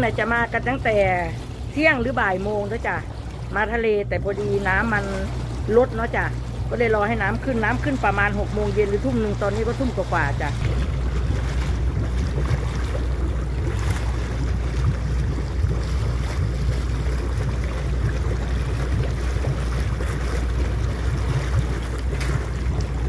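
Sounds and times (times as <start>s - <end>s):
motorboat engine drone: 0.0s - 23.0s
water around boat: 0.0s - 23.0s.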